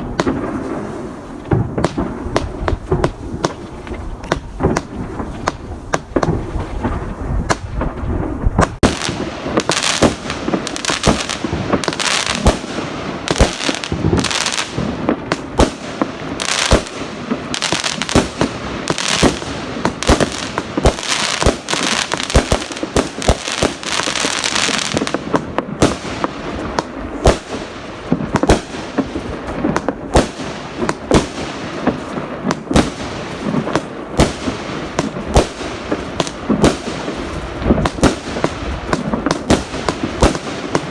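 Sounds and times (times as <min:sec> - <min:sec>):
firecrackers banging: 0:00.0 - 0:40.9
fireworks crackling: 0:00.0 - 0:40.9.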